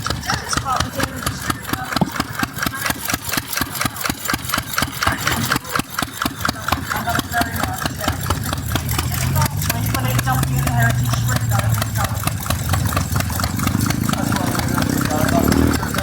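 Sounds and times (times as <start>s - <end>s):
faint voices: 0.0s - 16.0s
stationary engine idling: 0.0s - 16.0s.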